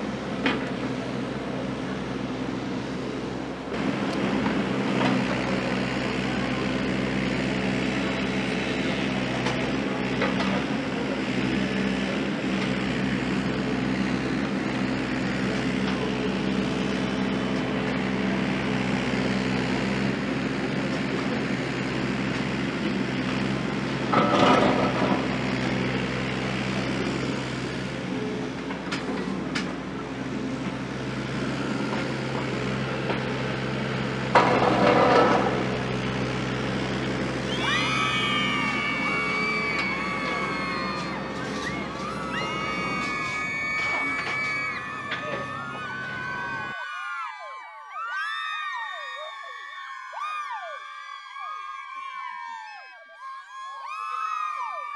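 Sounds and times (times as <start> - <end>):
excavator diesel engine running: 0.0 - 47.6.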